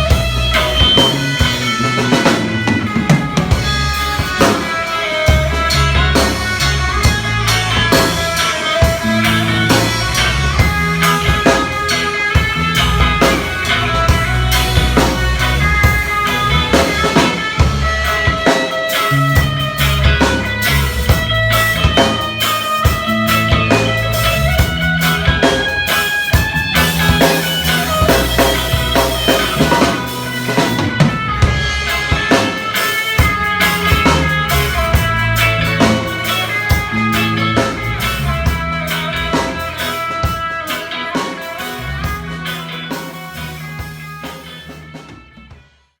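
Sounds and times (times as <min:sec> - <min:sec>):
instrumental band music: 0:00.0 - 0:46.0.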